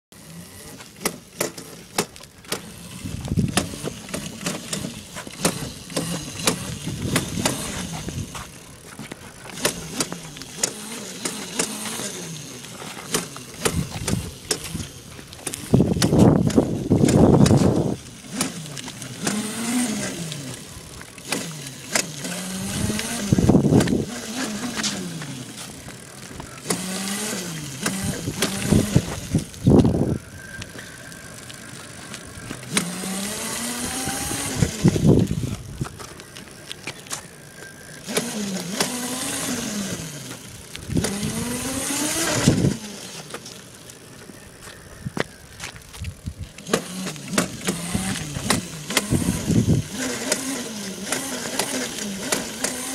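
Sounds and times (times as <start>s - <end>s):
electric scooter motor whining: 0.2s - 52.9s.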